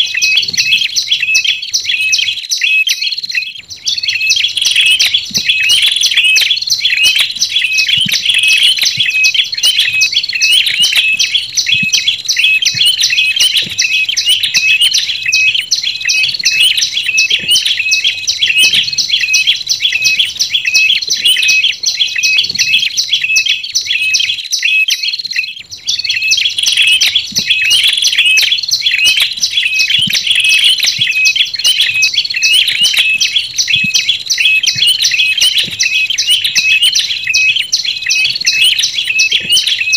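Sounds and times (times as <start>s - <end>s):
high-pitched bird chirps: 0.0s - 39.9s.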